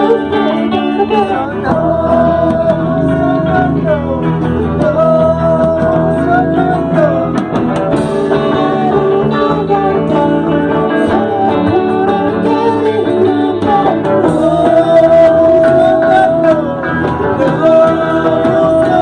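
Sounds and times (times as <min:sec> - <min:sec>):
guitar playing: 0:00.0 - 0:19.0
person singing: 0:00.0 - 0:19.0.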